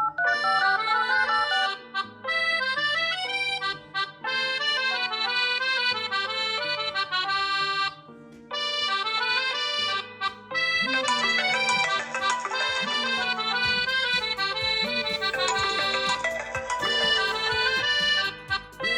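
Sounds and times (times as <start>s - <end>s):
mobile phone ringtone melody: 0.0s - 8.0s, 8.6s - 18.9s.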